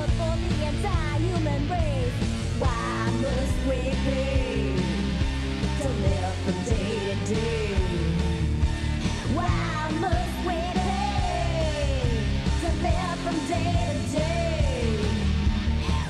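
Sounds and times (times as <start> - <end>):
rock song with singing: 0.0 - 16.0.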